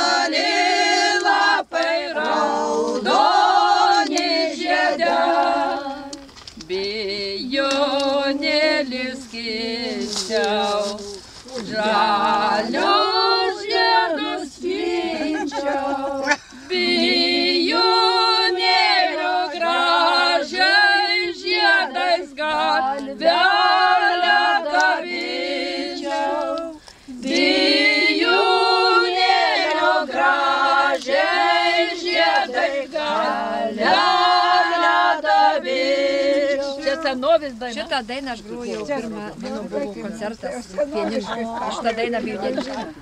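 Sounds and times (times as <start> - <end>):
women singing unaccompanied: 0.0 - 43.0.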